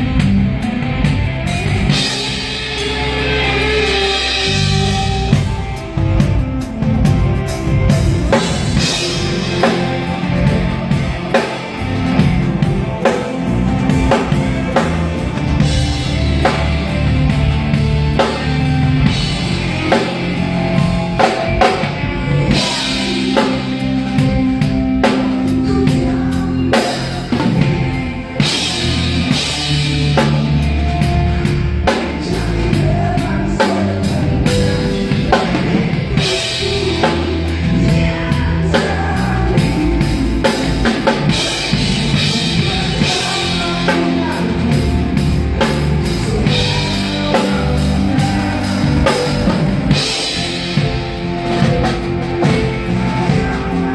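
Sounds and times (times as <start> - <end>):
drum kit playing: 0.0 - 53.9
recorded rock song: 0.0 - 53.9.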